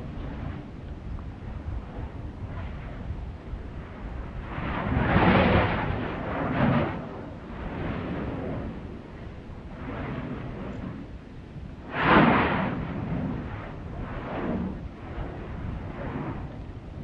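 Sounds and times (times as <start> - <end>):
wind rumble on microphone: 0.0 - 17.0
volcanic blast of rushing gas: 1.3 - 17.0.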